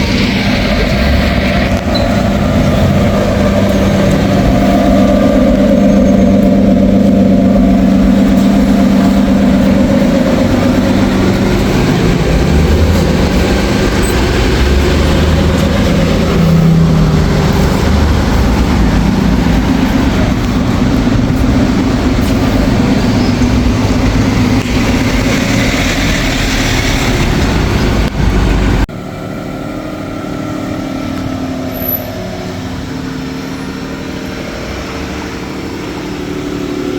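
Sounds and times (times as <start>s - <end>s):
rush of traffic: 0.0s - 36.9s
vehicle engines humming: 0.0s - 36.9s.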